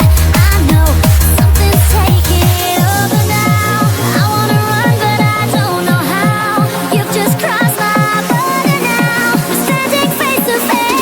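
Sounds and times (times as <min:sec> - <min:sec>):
fast electronic dance music: 0:00.0 - 0:11.0.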